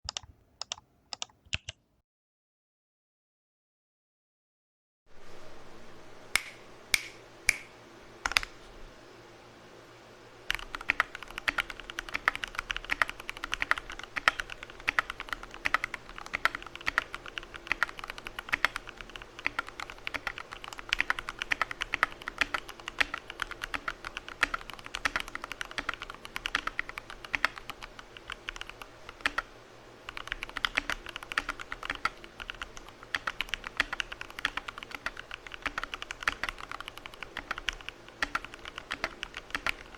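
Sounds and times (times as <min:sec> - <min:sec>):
mechanical keyboard typing: 0:00.1 - 0:01.8, 0:06.4 - 0:08.5, 0:10.5 - 0:29.5, 0:30.1 - 0:39.9.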